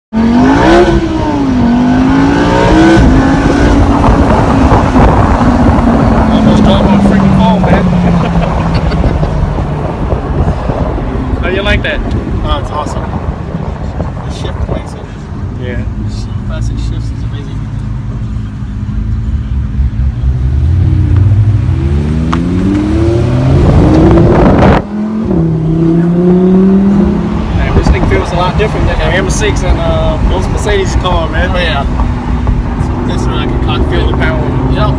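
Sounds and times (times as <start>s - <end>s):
sports car engine accelerating: 0.2s - 11.4s, 17.2s - 34.9s.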